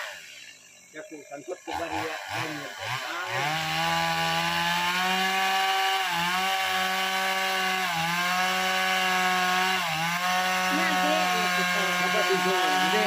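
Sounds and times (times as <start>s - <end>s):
chainsaw cutting wood: 0.0s - 0.6s, 1.6s - 13.0s.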